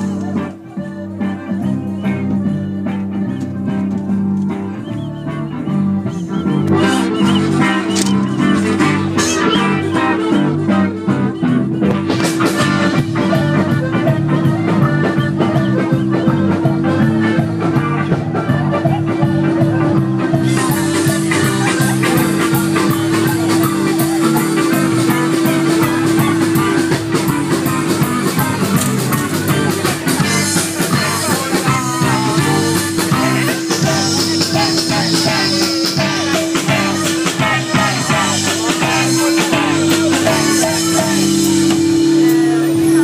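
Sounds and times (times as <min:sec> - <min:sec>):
live rock band with accordion: 0:00.0 - 0:43.0.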